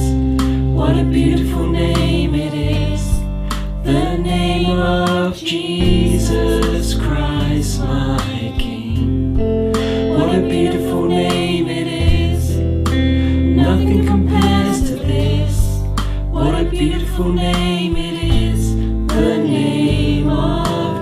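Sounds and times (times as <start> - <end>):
deep bass line: 0.0 - 21.0
guitar: 0.0 - 21.0
voices singing together: 0.0 - 21.0.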